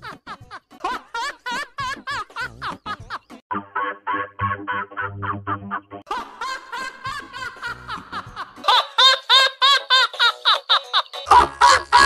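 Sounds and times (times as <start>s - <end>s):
deep bass laugh version: 0.0s - 9.8s, 11.3s - 12.0s
high squeaky cartoon laugh: 0.8s - 12.0s.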